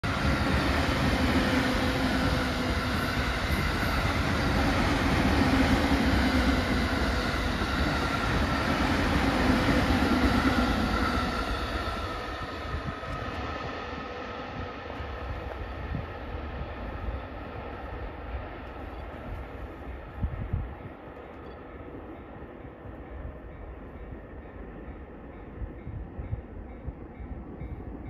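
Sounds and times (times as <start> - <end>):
train wheels rushing on rail: 0.0 - 28.0.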